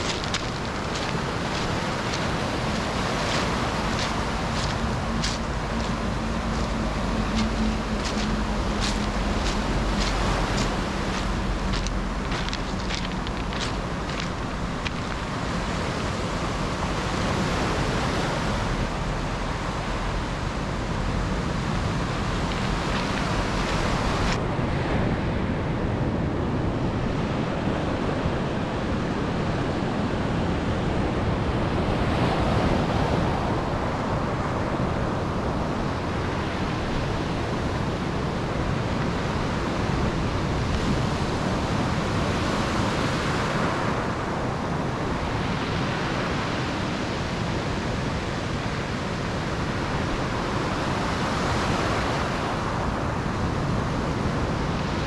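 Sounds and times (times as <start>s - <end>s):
waves breaking on shore: 0.0s - 55.0s
wind rumble on microphone: 0.0s - 55.0s.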